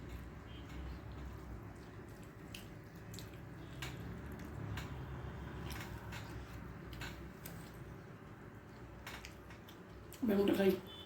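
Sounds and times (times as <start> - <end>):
chewing and lip smacks: 0.8 - 10.2.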